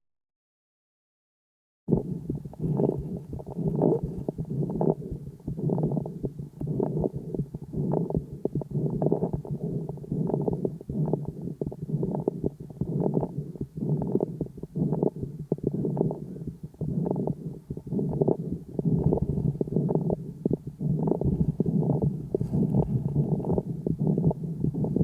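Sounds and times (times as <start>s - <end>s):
calf breath sounds through stethoscope: 2.0s - 25.0s.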